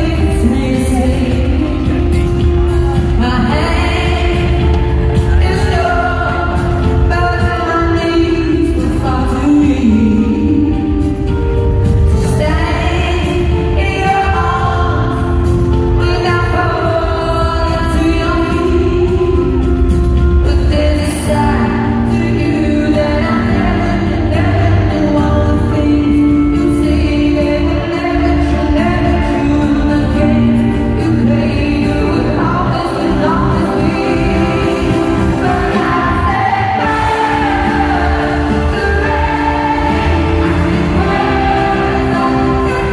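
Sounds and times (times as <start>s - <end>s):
band with heavy bass: 0.0s - 42.9s
woman singing pop ballad: 0.0s - 42.9s.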